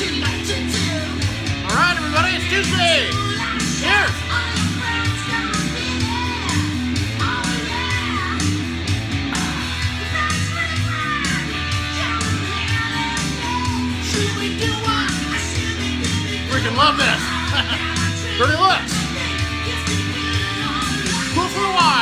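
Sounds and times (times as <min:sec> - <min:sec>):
rock song from vinyl record: 0:00.0 - 0:22.0.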